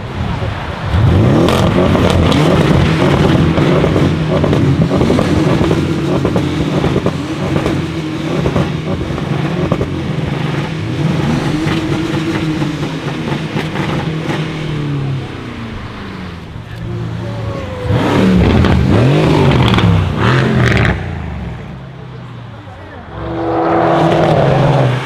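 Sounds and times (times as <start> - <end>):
exhaust cracks: 0.0 - 25.0
sports car engine revving: 0.0 - 25.0.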